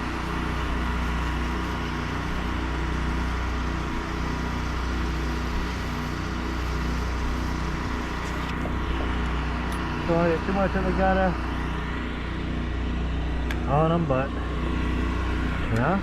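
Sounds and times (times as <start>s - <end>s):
small gasoline engine running: 0.0s - 16.0s.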